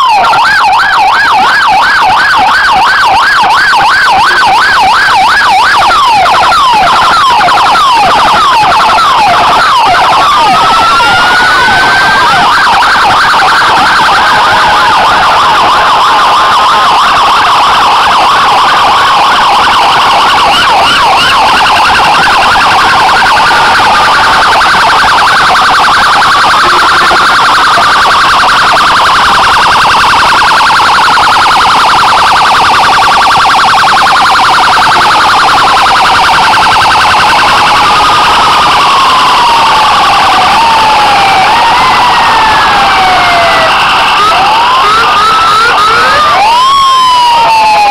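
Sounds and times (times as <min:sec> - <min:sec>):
emergency vehicle sirens: 0:00.0 - 0:47.9.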